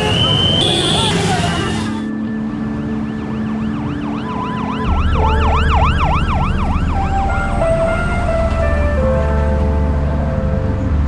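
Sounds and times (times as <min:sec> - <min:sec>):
siren yelping: 0:00.0 - 0:09.6
steady held tones: 0:01.7 - 0:11.0
deep low drone: 0:02.0 - 0:11.0.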